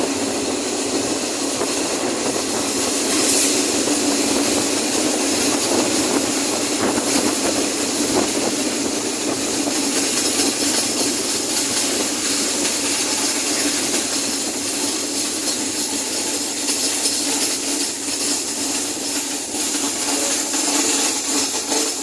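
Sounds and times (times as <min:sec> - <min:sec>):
diesel railcar engine humming: 0:00.0 - 0:22.0.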